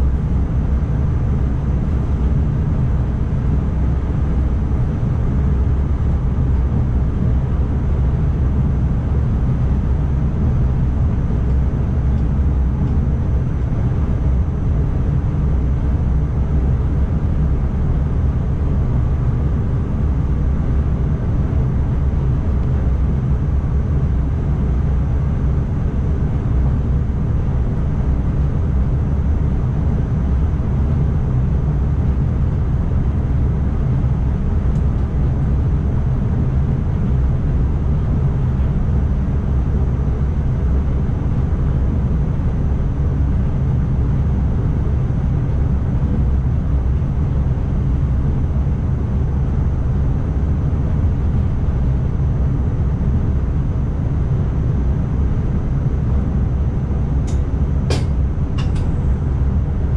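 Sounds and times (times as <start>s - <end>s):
train cab low rumble: 0.0s - 59.9s.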